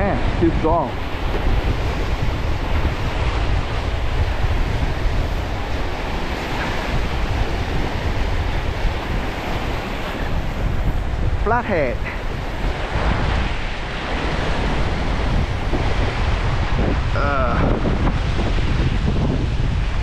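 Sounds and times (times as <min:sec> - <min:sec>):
waves washing: 0:00.0 - 0:20.0
wind buffeting microphone: 0:00.0 - 0:20.0.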